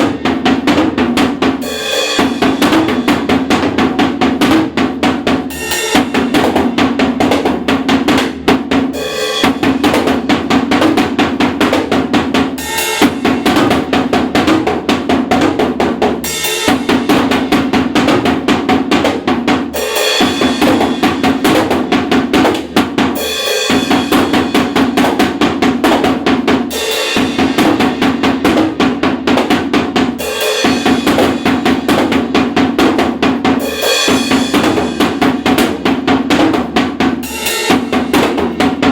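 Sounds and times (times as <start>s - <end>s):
drum kit playing fast groove: 0.0s - 38.9s.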